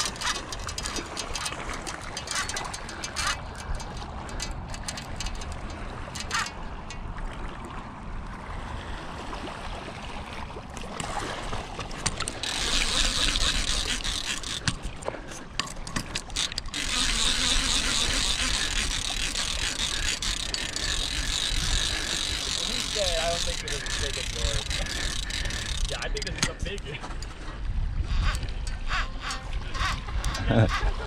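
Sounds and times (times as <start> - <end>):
fishing reel whirring and clicking: 0.0 - 7.1, 11.8 - 31.0.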